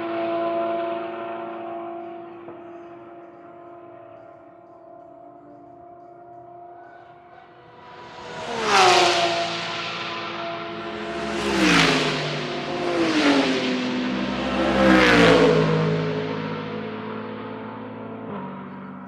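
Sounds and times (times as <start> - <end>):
race cars passing at speed: 0.0 - 19.0.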